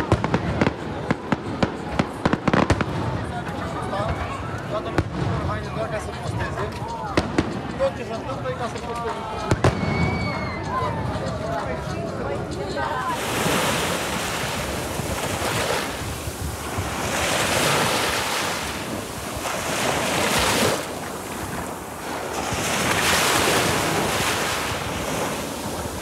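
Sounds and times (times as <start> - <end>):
waves washing up a beach: 0.0 - 26.0
wind rumbling on microphone: 0.0 - 26.0.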